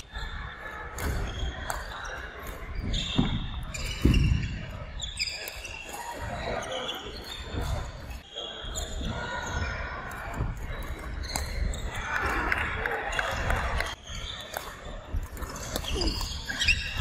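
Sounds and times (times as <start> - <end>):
voices in background: 0.0 - 17.0.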